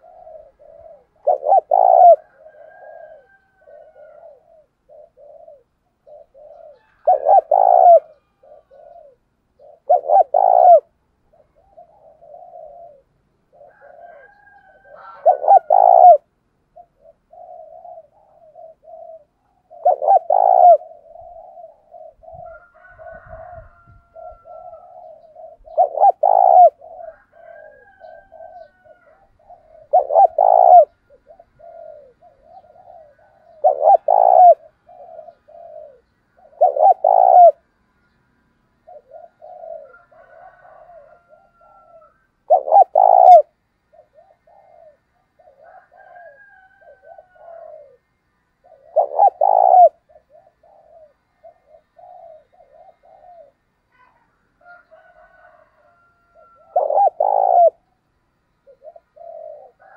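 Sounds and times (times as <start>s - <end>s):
dove cooing: 0.0s - 37.8s, 38.8s - 59.9s.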